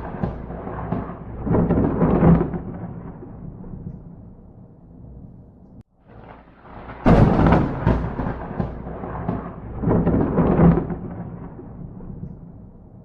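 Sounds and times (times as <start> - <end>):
thunder cracking and rumbling: 0.0 - 13.0.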